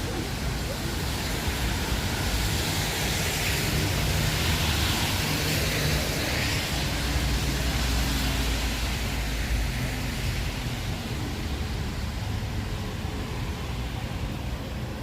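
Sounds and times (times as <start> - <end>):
rain on a wet street: 0.0 - 15.0
wind: 0.0 - 15.0.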